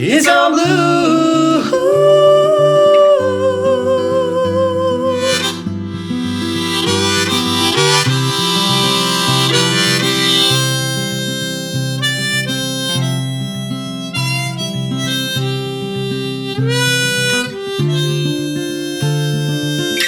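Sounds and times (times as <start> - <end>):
acoustic guitar: 0.0 - 20.0
harmonica melody: 0.0 - 20.0.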